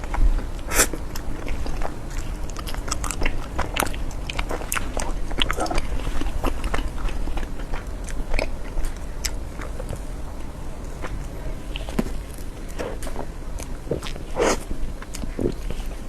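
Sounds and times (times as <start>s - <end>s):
person chewing cake: 0.0s - 16.0s.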